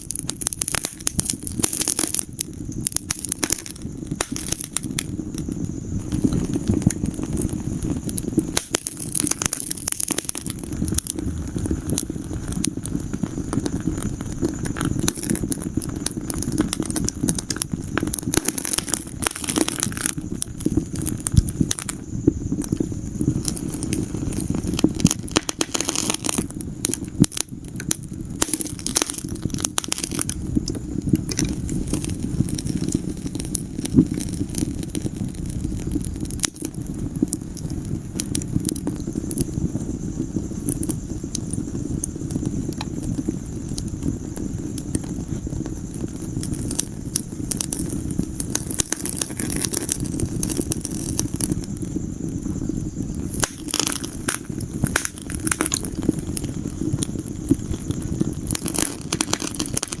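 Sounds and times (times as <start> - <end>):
fire crackling and popping: 0.0 - 60.0
low rumble of flames: 0.0 - 60.0.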